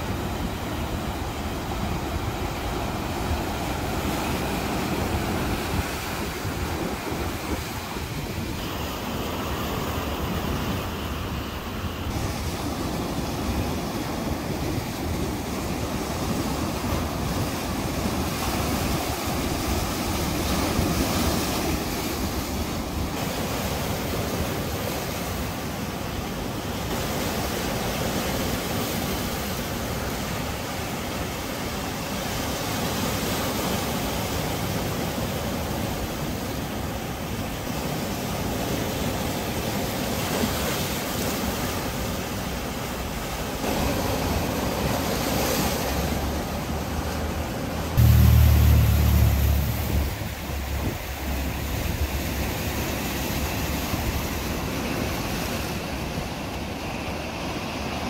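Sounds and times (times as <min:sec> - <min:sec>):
sea waves breaking over rocks: 0:00.0 - 0:58.0.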